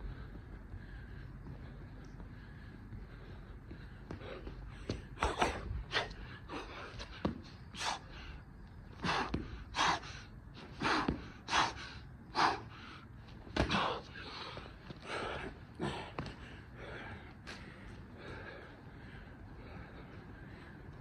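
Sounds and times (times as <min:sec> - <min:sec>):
man breathing hard and gasping: 0:00.0 - 0:21.0.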